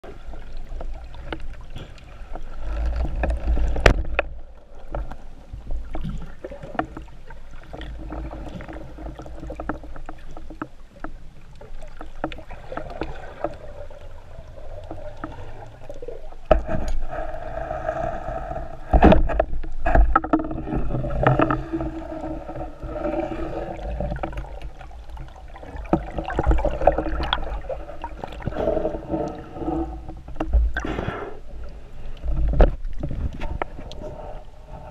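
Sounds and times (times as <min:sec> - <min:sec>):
low underwater rumble: 0:00.0 - 0:34.9.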